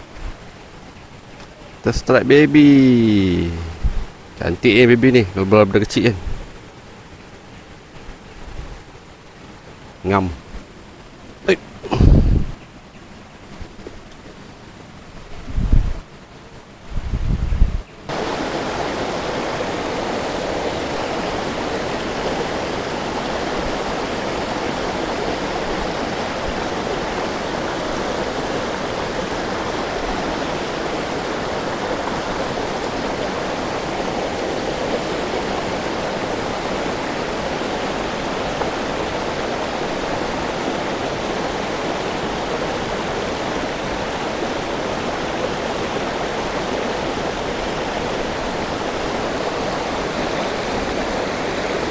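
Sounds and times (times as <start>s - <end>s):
stream rapids rushing: 0.0s - 15.4s, 18.0s - 51.9s.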